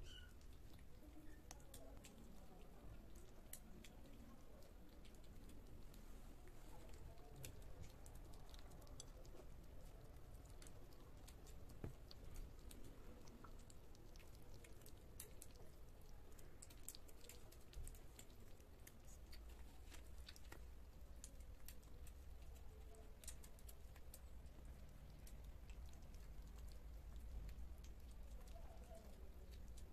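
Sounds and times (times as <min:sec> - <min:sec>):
kittens chewing and smacking: 0:00.0 - 0:29.9.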